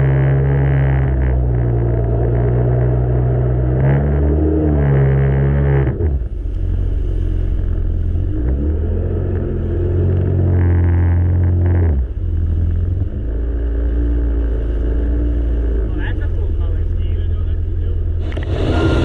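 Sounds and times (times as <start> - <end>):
jet ski engine running: 0.0 - 19.0.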